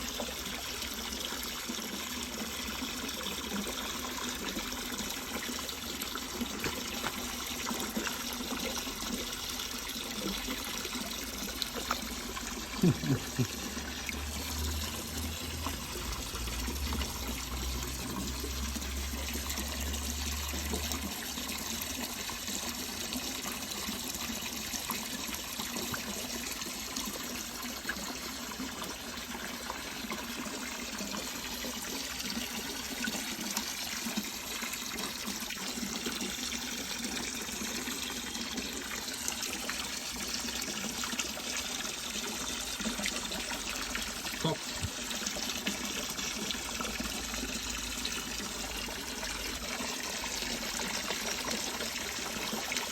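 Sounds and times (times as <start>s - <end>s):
water trickling and splashing: 0.0s - 52.9s.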